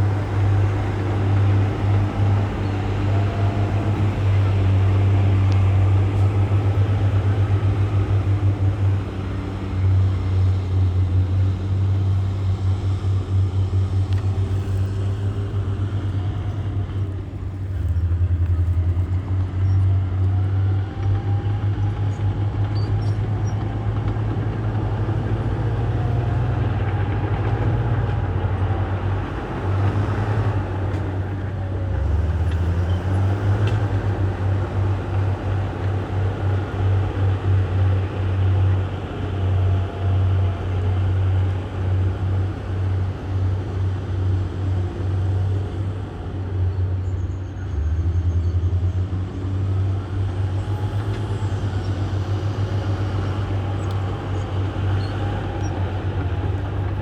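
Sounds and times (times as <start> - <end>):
diesel machinery engine rumble: 0.0 - 57.0.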